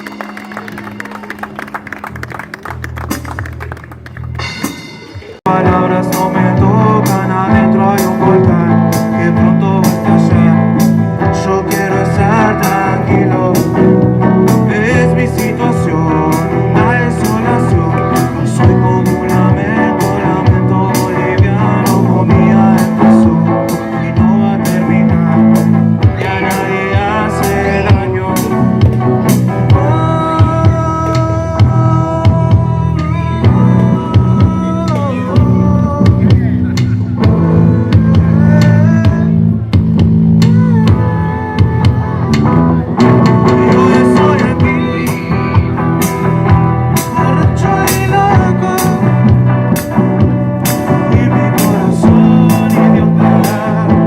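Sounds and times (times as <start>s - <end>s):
electric guitar: 0.0s - 54.0s
live rock band playing: 0.0s - 54.0s
drum kit with cymbal hits: 2.6s - 54.0s
person singing: 5.5s - 39.7s, 40.4s - 54.0s.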